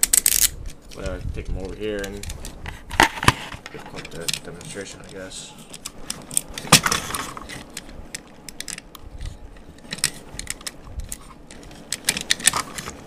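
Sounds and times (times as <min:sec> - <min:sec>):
toy parts clicking and rattling: 0:00.0 - 0:02.6, 0:03.6 - 0:13.0.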